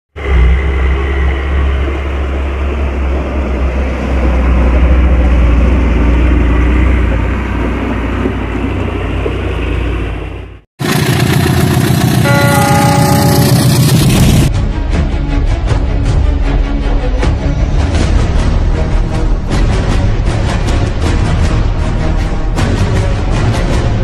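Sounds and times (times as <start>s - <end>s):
diesel truck engine: 0.2s - 24.0s
theme music: 0.2s - 24.0s.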